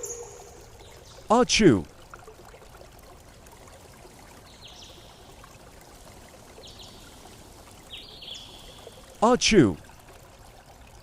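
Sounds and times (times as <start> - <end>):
faint water-like hiss: 1.6 - 10.5.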